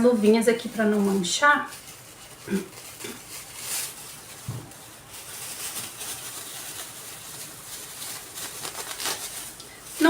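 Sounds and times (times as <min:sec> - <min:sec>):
disposable gloves rustling: 0:00.0 - 0:10.0.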